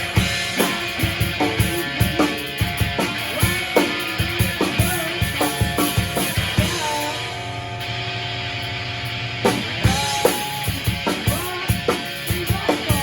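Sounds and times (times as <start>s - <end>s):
drum kit beat: 0.0s - 8.2s, 9.0s - 13.0s
electric guitar with bending notes: 0.0s - 13.0s.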